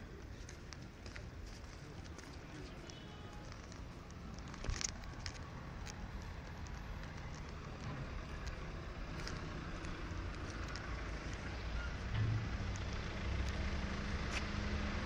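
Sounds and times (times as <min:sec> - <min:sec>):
passing cars hum: 0:02.3 - 0:15.0.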